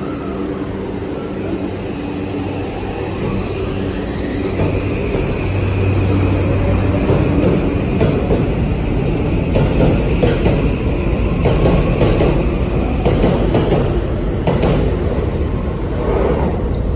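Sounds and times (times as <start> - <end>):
train cars rumbling: 0.0 - 16.9.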